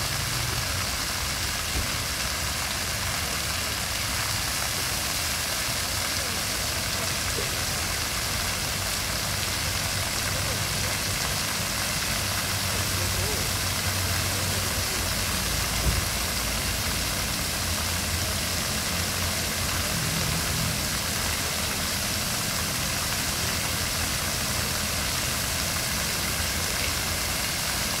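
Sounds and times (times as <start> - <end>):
fountain jets splashing: 0.0 - 28.0.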